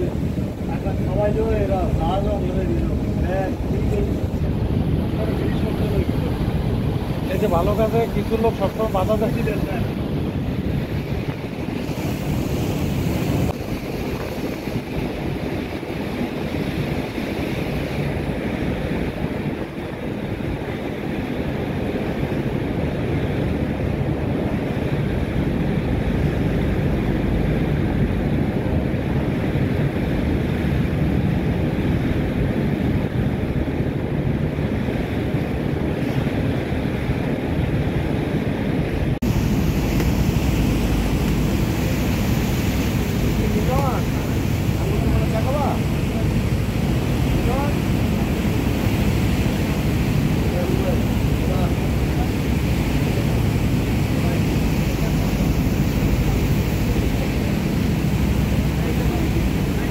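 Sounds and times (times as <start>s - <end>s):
boat engine rumble: 0.0s - 59.9s
water rushing in boat wake: 0.0s - 59.9s
wind buffeting microphone: 0.0s - 59.9s.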